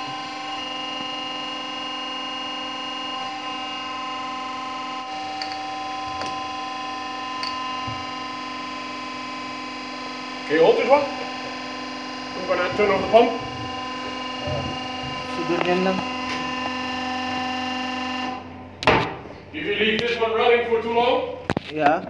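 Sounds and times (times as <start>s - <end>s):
electric oil pump humming: 0.0s - 18.9s.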